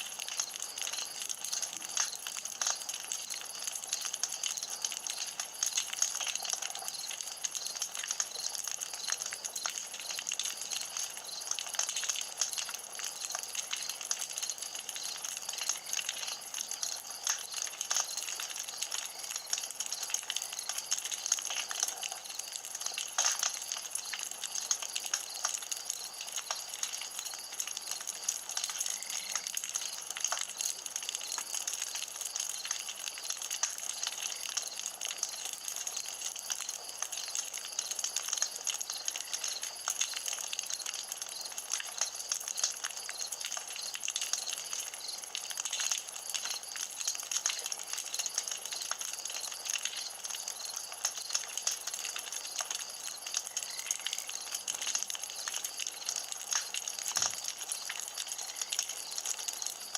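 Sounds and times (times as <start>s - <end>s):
campfire crackling and hissing: 0.0s - 59.9s.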